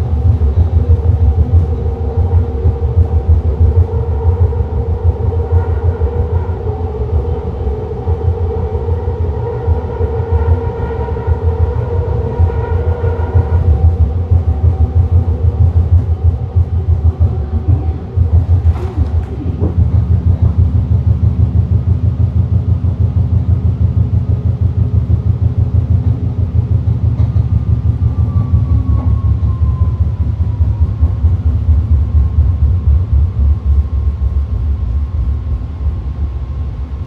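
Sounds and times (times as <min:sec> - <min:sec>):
train car rumbling on track: 0:00.0 - 0:37.0.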